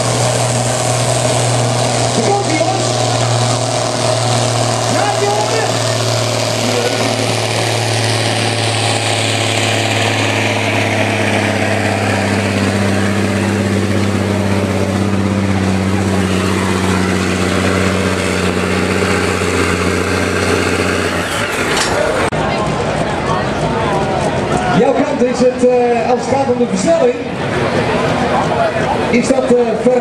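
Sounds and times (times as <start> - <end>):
diesel truck engine droning: 0.0 - 30.0.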